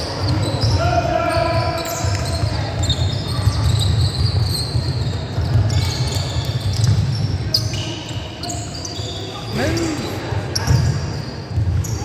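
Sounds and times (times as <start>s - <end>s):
sneaker squeaks: 0.0s - 12.0s.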